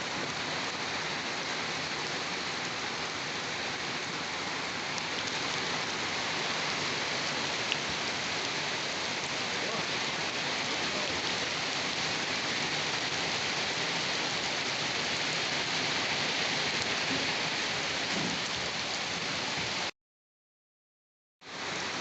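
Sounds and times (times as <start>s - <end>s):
steady rain falling: 0.0s - 19.9s, 21.4s - 22.0s.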